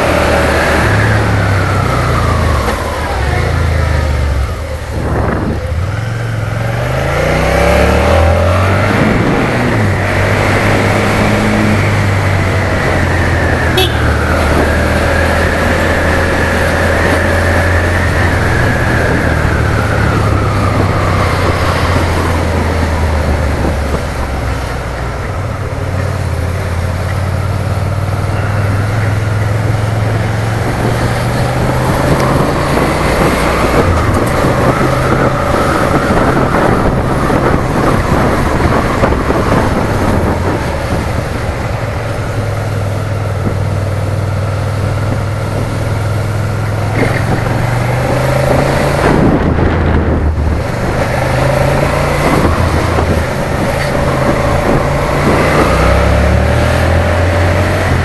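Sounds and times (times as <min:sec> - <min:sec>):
engine whine: 0:00.0 - 0:58.0
rushing wind noise: 0:00.0 - 0:58.0
motorcycle engine running: 0:08.4 - 0:58.0.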